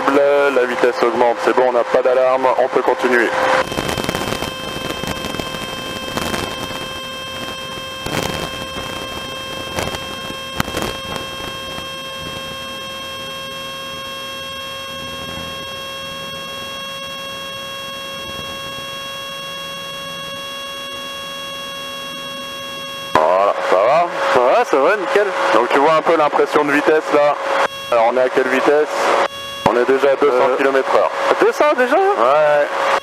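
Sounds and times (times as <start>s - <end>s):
propeller aircraft engine whine: 0.0s - 33.0s.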